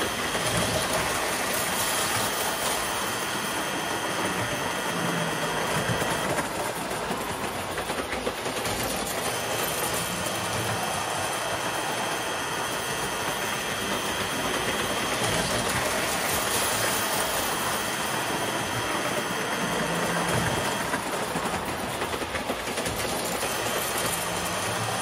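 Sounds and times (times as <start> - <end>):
toy train motor whine: 0.0 - 25.0
wheels rolling on metal track: 0.0 - 25.0.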